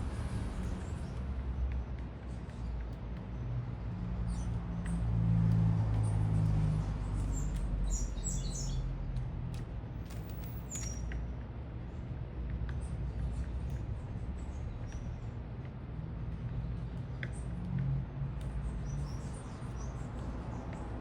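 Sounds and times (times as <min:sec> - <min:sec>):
low city rumble: 0:00.0 - 0:21.0
small birds chirping: 0:00.5 - 0:21.0.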